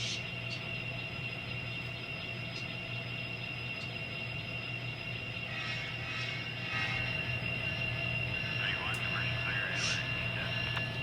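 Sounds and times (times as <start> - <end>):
model locomotive hum and whine: 0.0 - 11.0.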